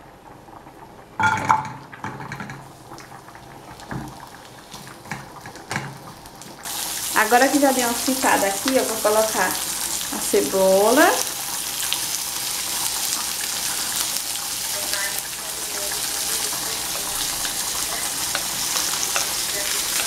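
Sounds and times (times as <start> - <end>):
sausage sizzling in a pan: 0.6 - 20.0.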